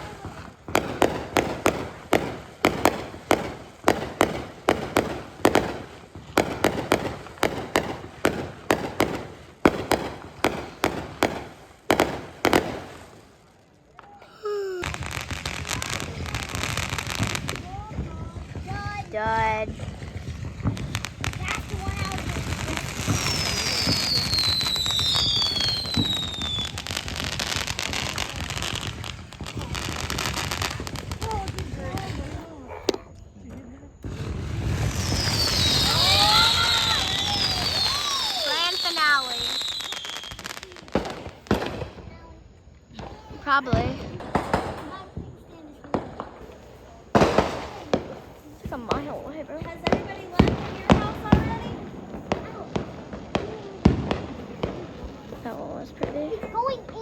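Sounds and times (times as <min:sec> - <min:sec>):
fireworks banging: 0:00.0 - 0:57.0.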